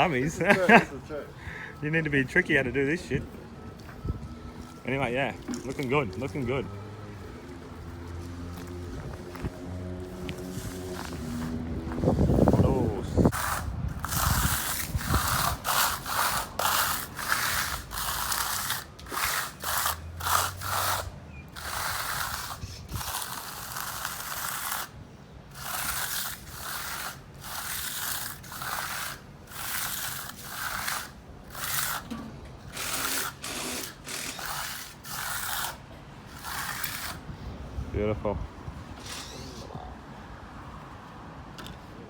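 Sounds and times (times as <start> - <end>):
broom scraping wet concrete: 0.0 - 37.5.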